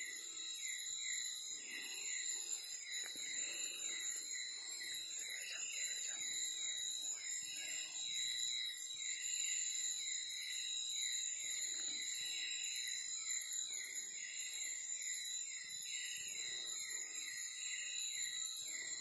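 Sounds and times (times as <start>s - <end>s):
high-pitched insect drones: 0.0s - 19.0s.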